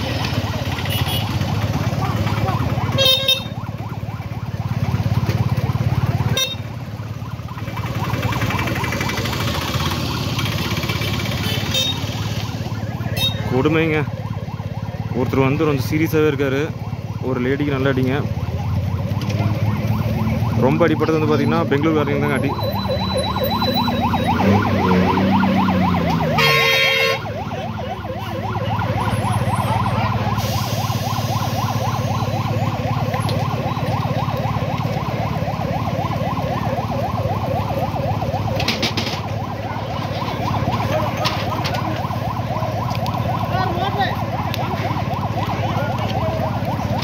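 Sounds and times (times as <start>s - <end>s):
siren wailing warble: 0.0s - 47.0s.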